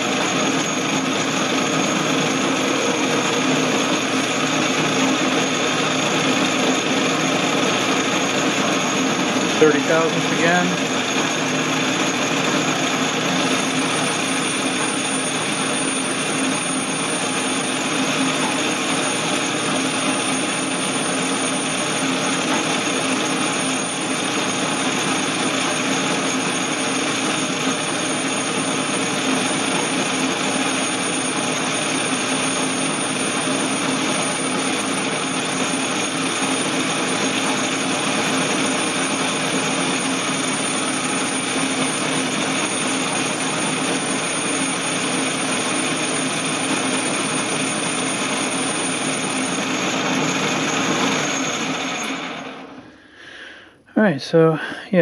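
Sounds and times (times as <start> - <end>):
metal lathe humming: 0.0 - 53.1.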